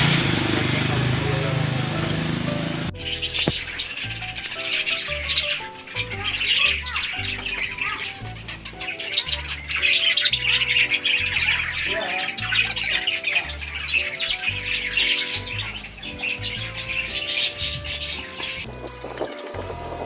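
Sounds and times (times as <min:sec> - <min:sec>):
background music with bass line: 0:00.0 - 0:20.0
budgerigars chirping and squawking: 0:00.7 - 0:20.0.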